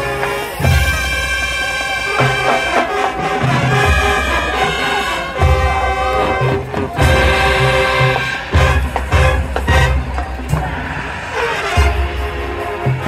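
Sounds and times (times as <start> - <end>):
brass chords: 0.0 - 13.0.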